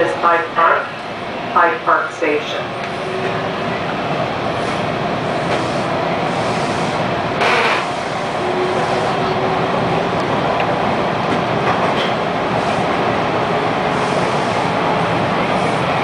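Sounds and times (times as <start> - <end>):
rush of train noise: 0.0 - 16.0
subway train rumbling in tunnel: 0.0 - 16.0.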